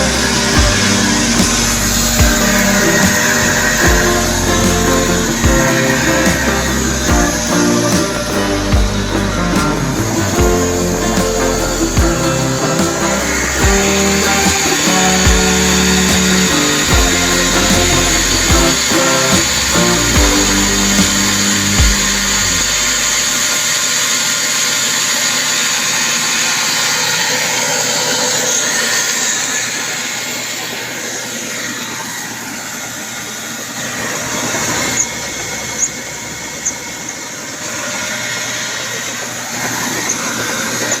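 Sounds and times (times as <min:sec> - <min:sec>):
machinery hissing and whining: 0:00.0 - 0:41.0.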